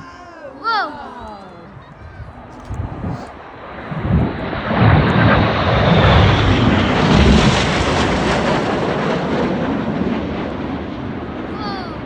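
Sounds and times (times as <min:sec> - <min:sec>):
jets flying over: 0:00.0 - 0:12.0.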